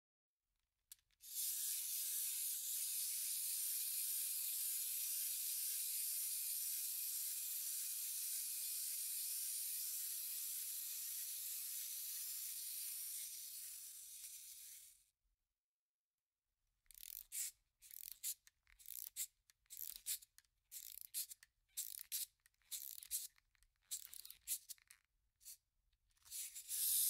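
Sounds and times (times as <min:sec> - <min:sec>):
clockwork motor whirring: 0:01.2 - 0:14.9, 0:16.9 - 0:25.0, 0:26.2 - 0:27.0.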